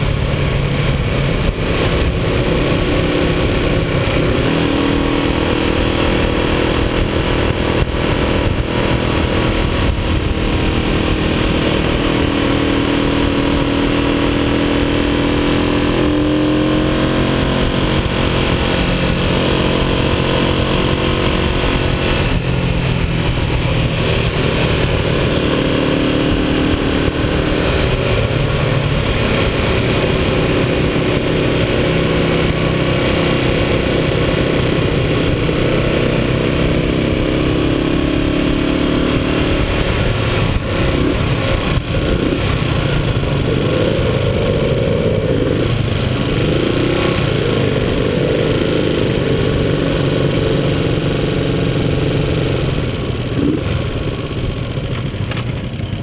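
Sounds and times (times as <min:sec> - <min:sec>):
wind rush: 0:00.0 - 0:36.0, 0:36.9 - 0:48.0
motorcycle engine running: 0:00.0 - 0:56.0.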